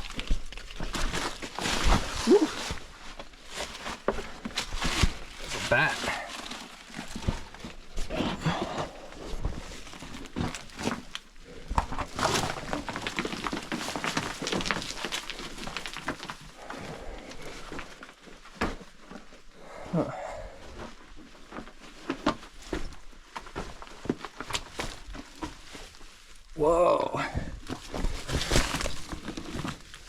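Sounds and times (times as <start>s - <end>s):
person crawling over rock: 0.0s - 30.0s.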